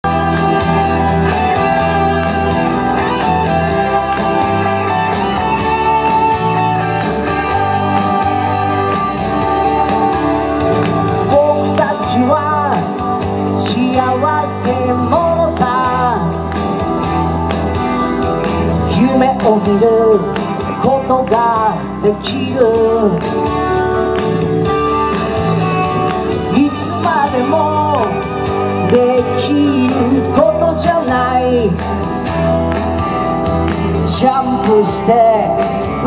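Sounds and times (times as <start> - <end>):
guitar: 0.0 - 36.0.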